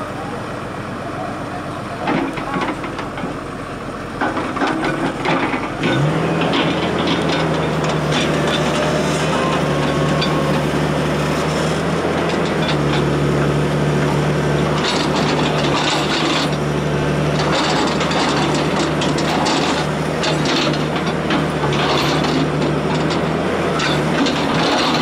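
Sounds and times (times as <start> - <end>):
diesel locomotive engine drone: 0.0 - 25.0
wheels clattering on track: 1.7 - 25.0.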